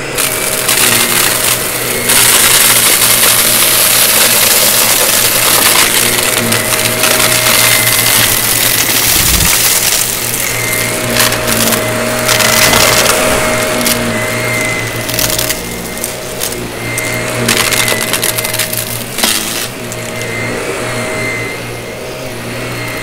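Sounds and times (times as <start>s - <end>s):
debris crackling through vacuum: 0.0s - 20.1s
vacuum cleaner motor whine: 0.0s - 23.0s.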